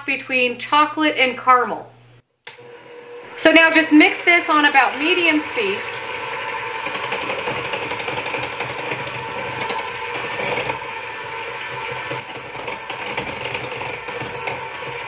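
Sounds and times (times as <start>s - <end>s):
electric hand mixer whirring: 2.5s - 15.0s.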